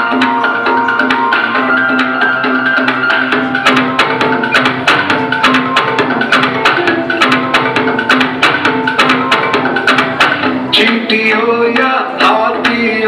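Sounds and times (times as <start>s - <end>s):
instrumental music with beat: 0.0s - 13.0s.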